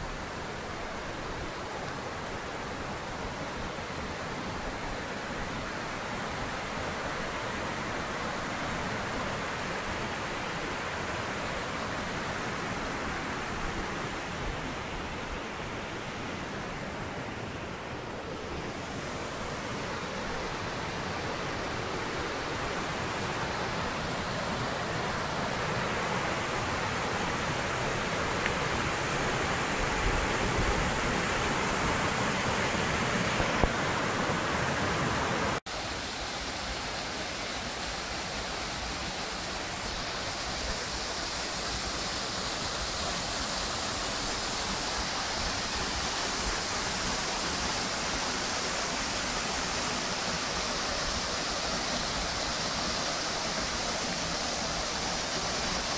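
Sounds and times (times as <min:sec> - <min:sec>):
river water pouring over cascades: 0:00.0 - 0:55.9.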